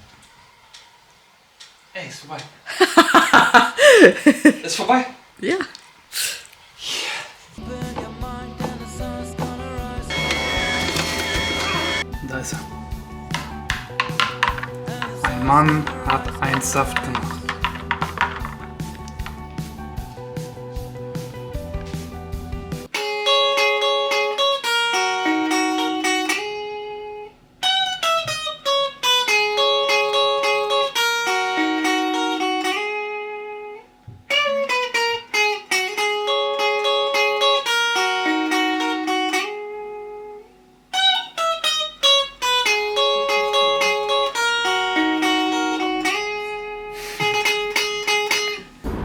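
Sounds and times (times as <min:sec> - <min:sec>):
guitar picking a riff: 0:07.7 - 0:12.2, 0:12.9 - 0:49.0.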